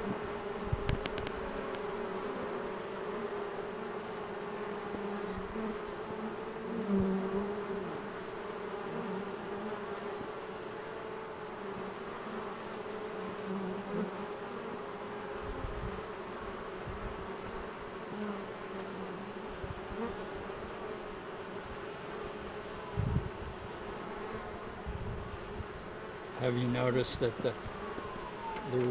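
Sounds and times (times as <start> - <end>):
bee swarm buzzing: 0.0 - 28.9.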